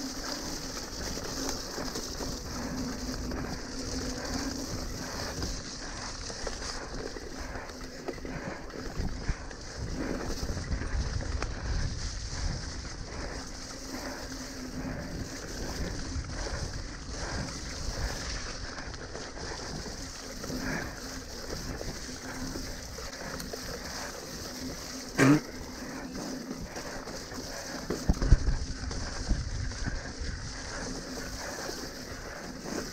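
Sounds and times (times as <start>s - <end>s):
wind noise on microphone: 0.0s - 23.4s, 26.6s - 32.9s
bike rattling over rough ground: 0.0s - 32.9s.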